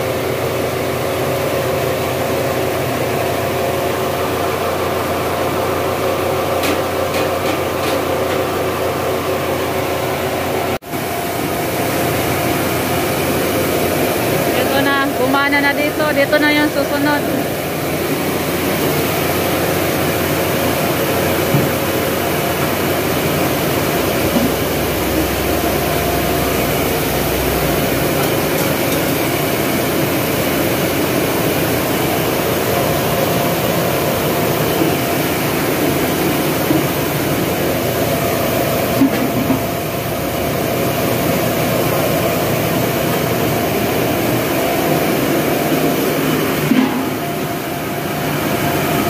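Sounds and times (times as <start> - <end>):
grinding mill running: 0.0 - 49.0.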